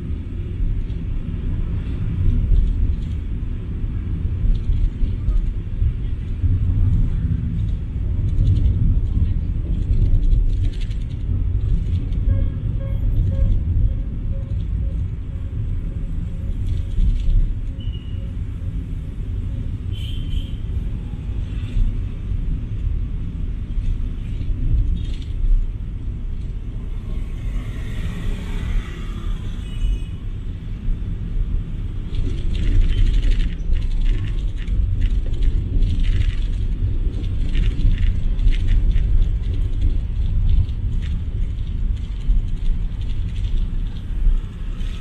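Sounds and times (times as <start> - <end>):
car engine and tyre rumble: 0.0 - 45.0
passing traffic: 0.0 - 45.0.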